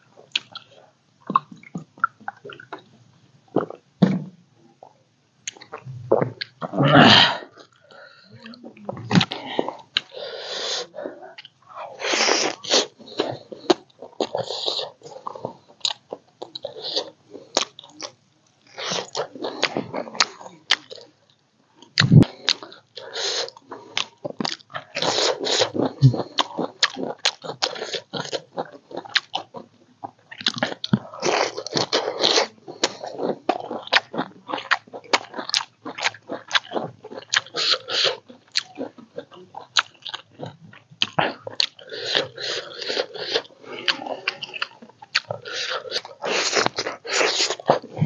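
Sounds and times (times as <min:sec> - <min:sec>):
person chewing food: 0:00.2 - 0:03.8, 0:04.8 - 0:48.0.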